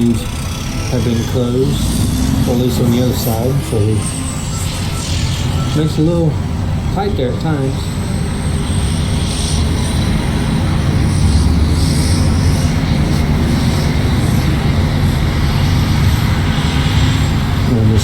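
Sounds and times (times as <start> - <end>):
faint high whine: 0.0 - 18.0
vehicle engine drone: 0.0 - 18.0.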